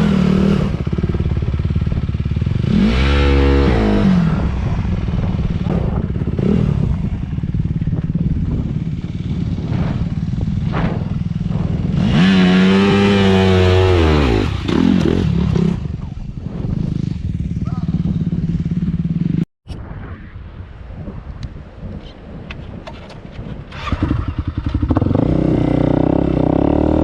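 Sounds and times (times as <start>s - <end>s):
dirt bike engine revving: 0.0s - 19.4s, 23.8s - 27.0s.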